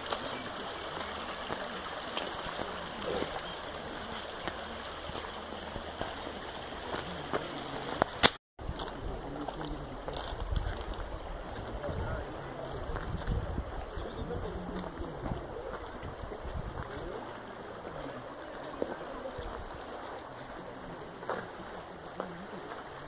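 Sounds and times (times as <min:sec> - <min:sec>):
stream running over gravel: 0:00.0 - 0:23.0.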